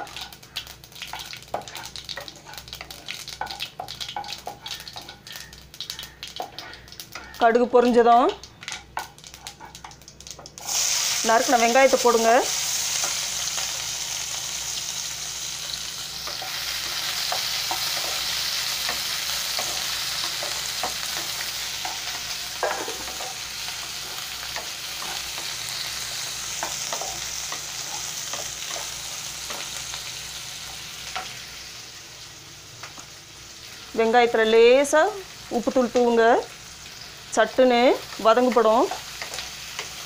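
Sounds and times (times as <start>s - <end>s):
onions sizzling in hot oil: 0.0s - 40.0s.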